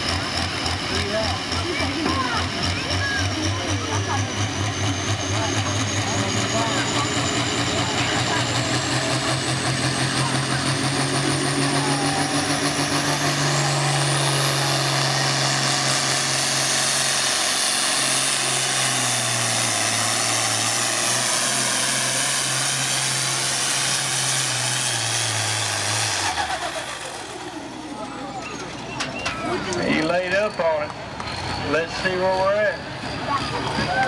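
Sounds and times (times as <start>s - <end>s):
high-pitched turbo whine: 0.0s - 30.8s
diesel engine at full throttle: 0.0s - 34.0s.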